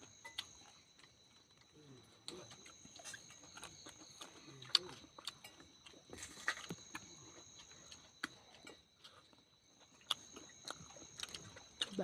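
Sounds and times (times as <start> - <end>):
faint high-pitched whine: 0.0 - 12.0
chewing clicks and smacks: 0.2 - 12.0.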